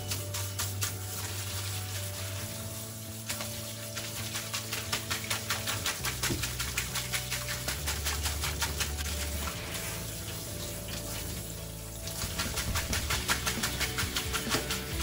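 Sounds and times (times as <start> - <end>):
background music with steady beat: 0.0 - 15.0
noodles rubbed in colander: 0.0 - 15.0
tap water running: 0.0 - 15.0.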